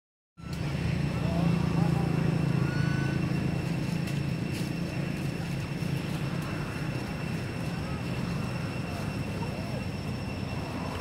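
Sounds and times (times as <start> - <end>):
distant engine drone: 0.4 - 11.0.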